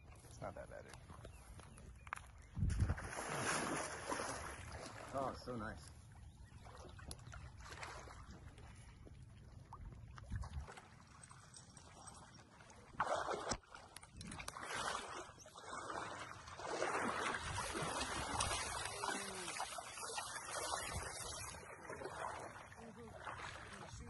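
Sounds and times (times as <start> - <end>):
splashing through shallow water: 2.2 - 24.0.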